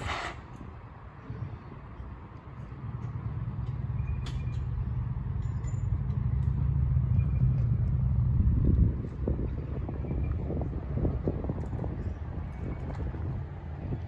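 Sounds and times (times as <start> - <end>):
electric tram rumbling on rails: 0.0 - 14.0.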